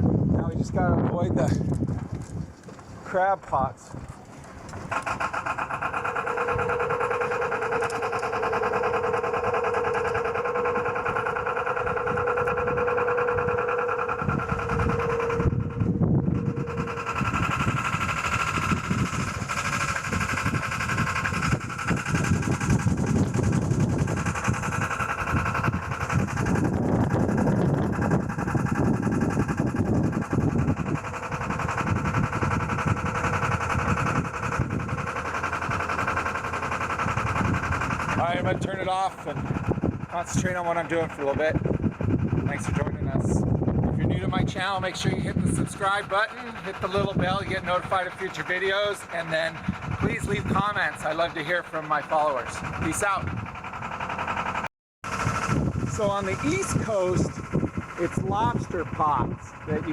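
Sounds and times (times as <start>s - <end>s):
boat diesel engine running: 0.0s - 59.9s
rough uneven rumbling: 0.0s - 59.9s.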